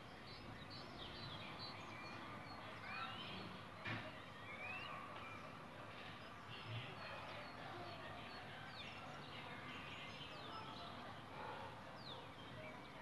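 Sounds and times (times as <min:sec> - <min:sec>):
birds chirping: 0:00.0 - 0:13.0
faint outdoor background noise: 0:00.0 - 0:13.0.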